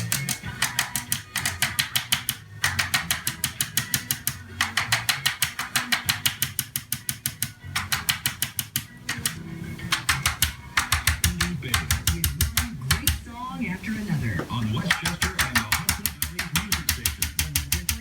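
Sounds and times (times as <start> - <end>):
electric hammer rapid clicking: 0.0 - 13.3, 14.8 - 18.0.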